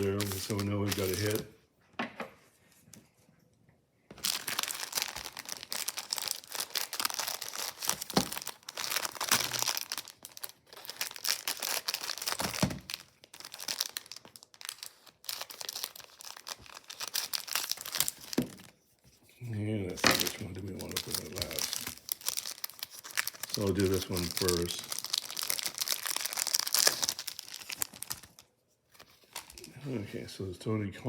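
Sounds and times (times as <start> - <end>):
plastic wrapper crinkling: 0.0 - 1.5, 4.1 - 18.8, 19.9 - 30.0.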